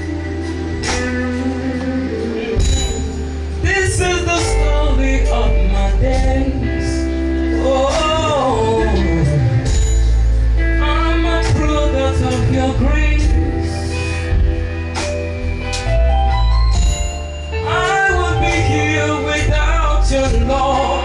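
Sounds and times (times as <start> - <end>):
person singing: 0.0 - 14.2, 17.6 - 21.0
band with held bass notes: 0.0 - 21.0.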